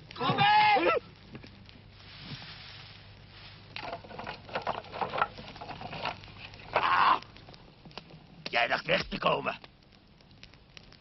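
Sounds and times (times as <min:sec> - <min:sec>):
film soundtrack hiss: 0:00.0 - 0:11.0.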